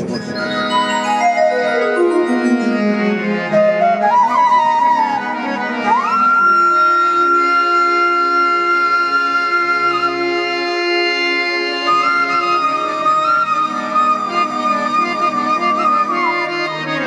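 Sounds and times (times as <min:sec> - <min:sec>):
flute-like melody: 0:00.0 - 0:17.0
harmonium chords: 0:00.0 - 0:17.0.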